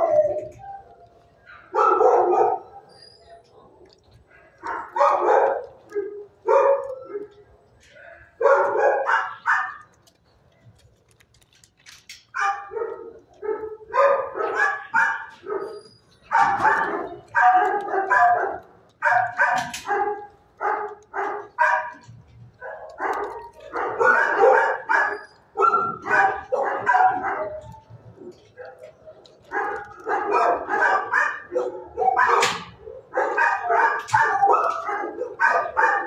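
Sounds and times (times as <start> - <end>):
dogs barking: 0.0 - 10.2, 12.3 - 36.0.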